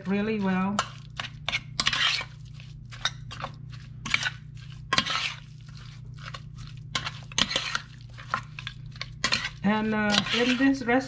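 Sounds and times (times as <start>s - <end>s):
spoon stirring ribs in a metal pot: 0.0s - 11.0s.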